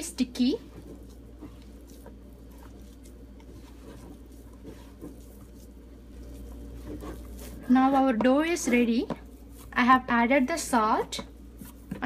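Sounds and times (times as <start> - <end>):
hands squishing dough: 0.0 - 12.0
low steady hum: 0.0 - 12.0.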